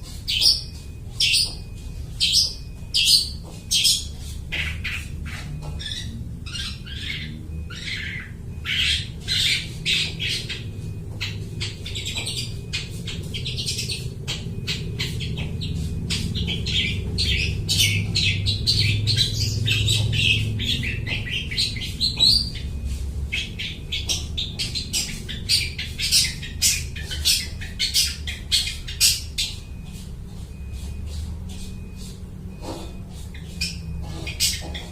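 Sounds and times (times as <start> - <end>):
shrike chattering song: 0.1 - 34.9.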